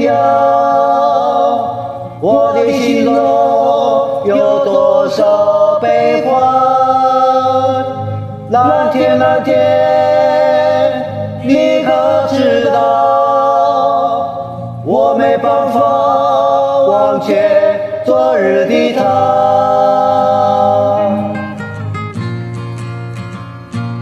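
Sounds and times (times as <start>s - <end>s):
person singing a ballad: 0.0s - 21.6s
karaoke backing track: 0.0s - 24.0s.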